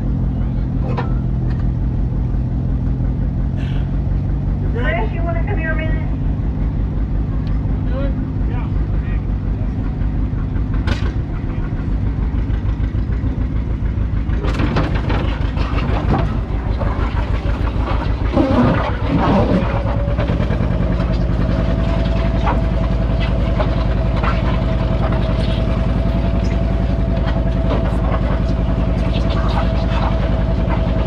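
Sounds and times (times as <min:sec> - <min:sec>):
steady high whine: 0:00.0 - 0:31.0
tractor engine running: 0:00.0 - 0:31.0.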